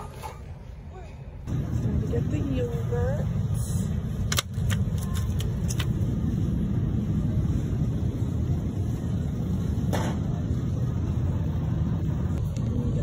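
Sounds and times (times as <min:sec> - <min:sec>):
steady low rumble: 0:00.4 - 0:13.0.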